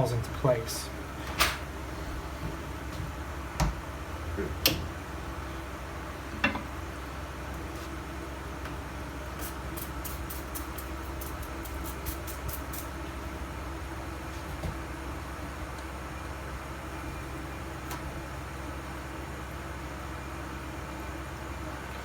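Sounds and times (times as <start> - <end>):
steady fan hum: 0.0 - 22.0.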